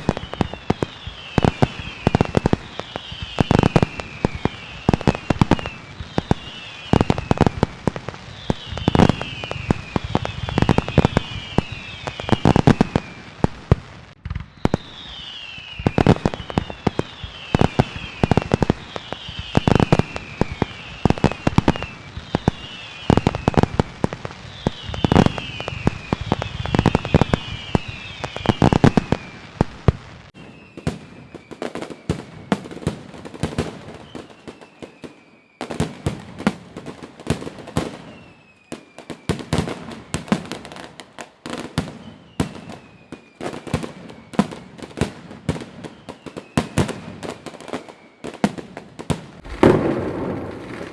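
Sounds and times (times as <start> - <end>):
falling firework whistles: 0.0 - 50.9
firework bangs: 0.0 - 50.9.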